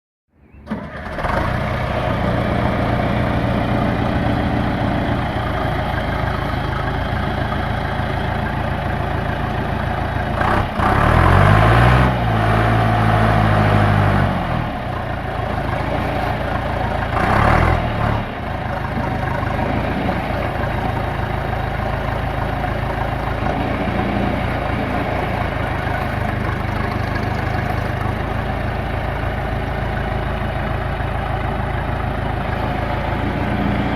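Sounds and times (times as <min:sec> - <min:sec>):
diesel engine idling and revving: 0:00.5 - 0:33.9.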